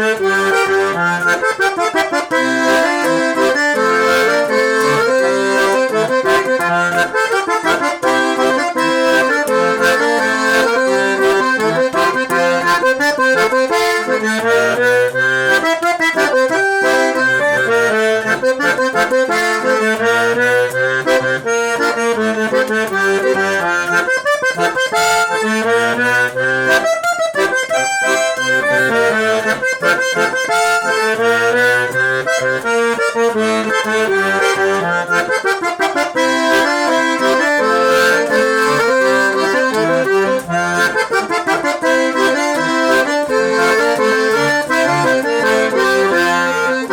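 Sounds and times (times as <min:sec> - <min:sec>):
accordion playing a tune: 0:00.0 - 0:46.9.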